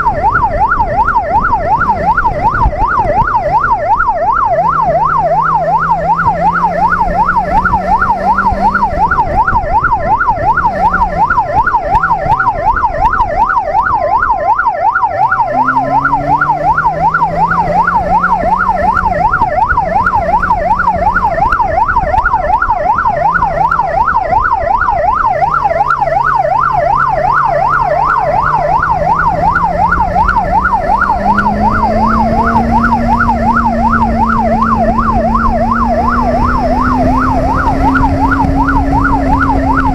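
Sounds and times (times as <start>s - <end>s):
electronic siren yelping: 0.0s - 39.9s
motorcycle engine revving: 1.2s - 13.0s, 15.1s - 24.4s, 25.1s - 39.9s.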